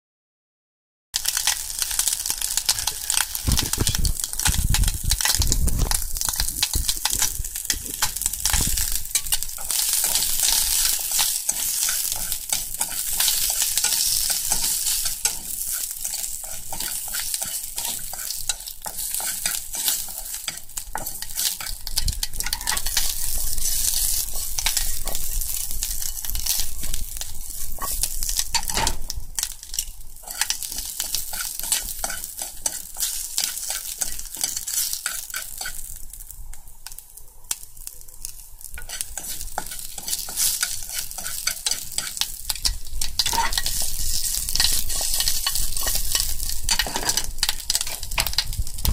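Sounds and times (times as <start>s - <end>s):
food sizzling in a frying pan: 1.2s - 48.9s
spatula scraping a pan: 2.4s - 36.0s, 38.8s - 48.9s.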